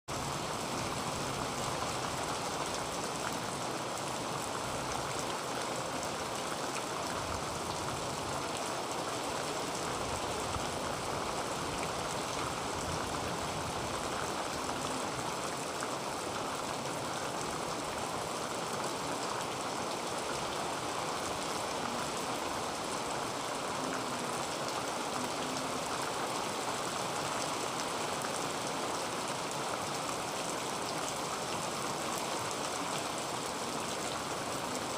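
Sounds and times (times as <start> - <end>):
heavy rain on a tin roof: 0.1 - 34.9.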